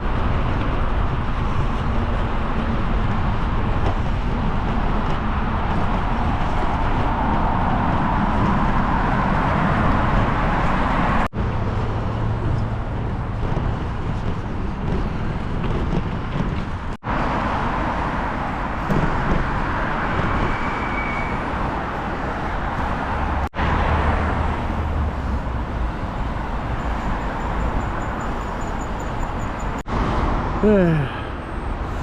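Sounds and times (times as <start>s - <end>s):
wind on microphone: 0.0s - 28.4s
traffic noise: 0.0s - 32.0s.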